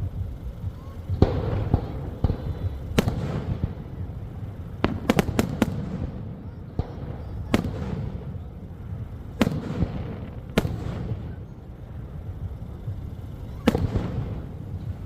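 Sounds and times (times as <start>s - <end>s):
fireworks bangs with echo: 0.0s - 15.0s
low rumble: 0.0s - 15.0s.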